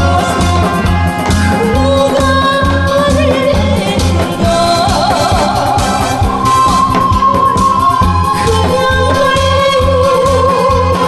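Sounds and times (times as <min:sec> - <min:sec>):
backing track bass beat: 0:00.0 - 0:11.0
person singing wavering vocal: 0:01.6 - 0:11.0.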